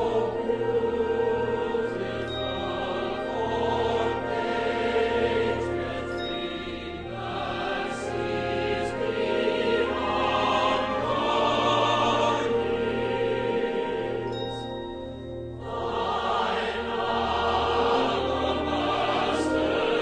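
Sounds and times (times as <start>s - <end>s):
choir singing sustained chords: 0.0s - 20.0s.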